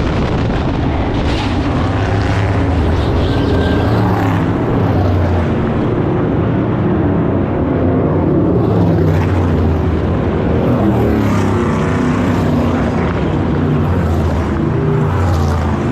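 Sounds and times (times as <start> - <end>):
race car engines running: 0.0 - 15.9.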